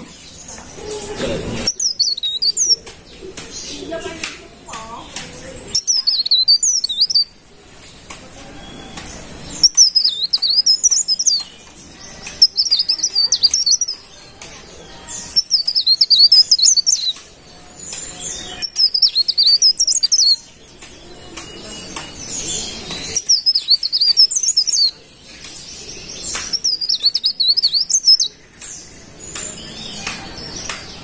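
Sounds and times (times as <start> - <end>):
warbler twittering song: 0.0 - 31.0.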